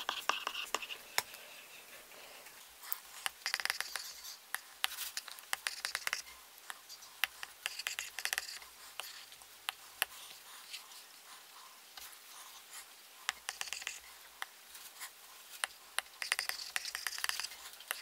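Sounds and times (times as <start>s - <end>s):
stylus scratching strokes: 0.0s - 18.0s.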